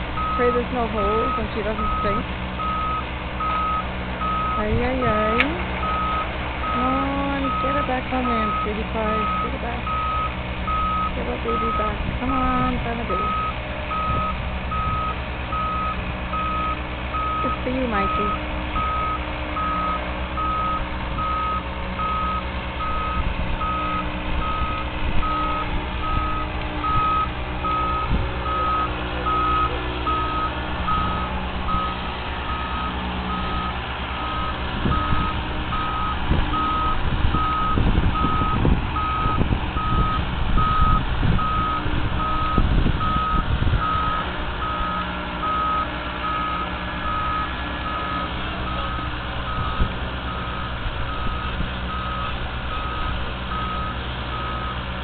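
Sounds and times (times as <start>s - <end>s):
engine running low: 0.0s - 55.0s
warning alarm beeping: 0.2s - 54.8s.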